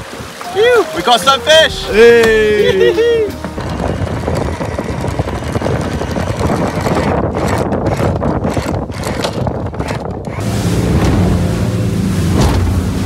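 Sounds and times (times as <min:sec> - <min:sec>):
heavy gusting wind on microphone: 0:00.0 - 0:13.0
water rushing along hull: 0:00.0 - 0:13.0.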